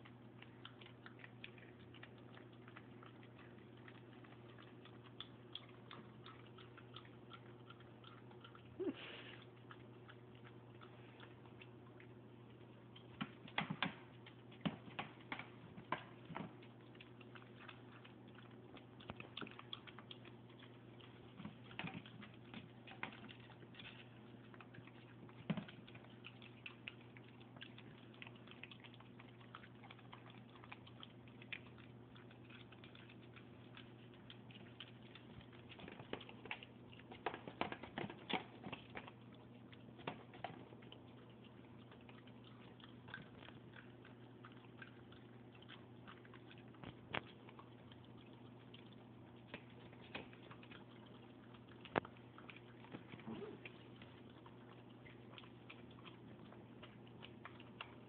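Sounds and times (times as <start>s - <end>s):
dog licking and smacking: 0.0s - 58.0s
faint steady hum: 0.0s - 58.0s.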